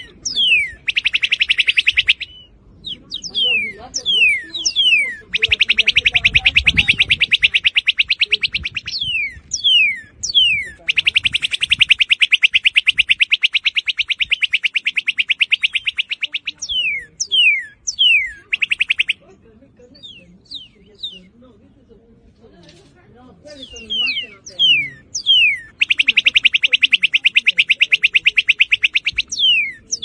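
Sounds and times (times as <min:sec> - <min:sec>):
bird singing whistles and trills: 0:00.0 - 0:19.2, 0:19.9 - 0:21.4, 0:23.5 - 0:30.0.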